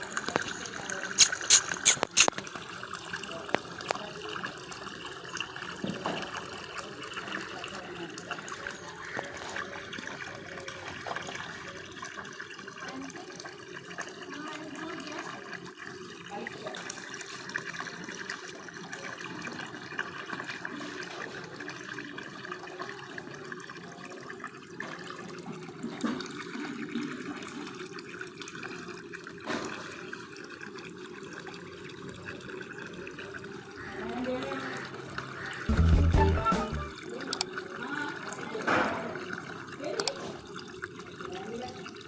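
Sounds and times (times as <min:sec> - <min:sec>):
water running from an outlet: 0:00.0 - 0:42.0.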